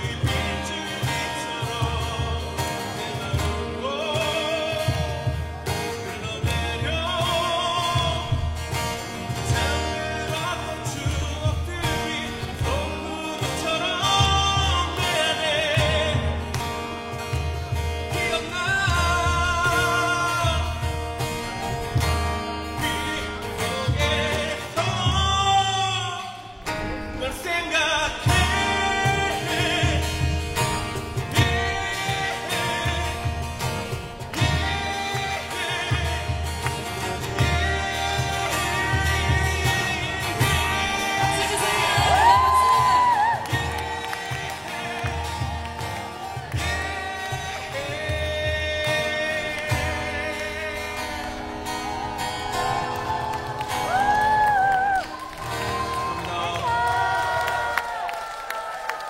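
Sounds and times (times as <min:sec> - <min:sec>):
guitar-backed music: 0:00.0 - 0:58.8
person singing with vibrato: 0:00.0 - 0:59.0.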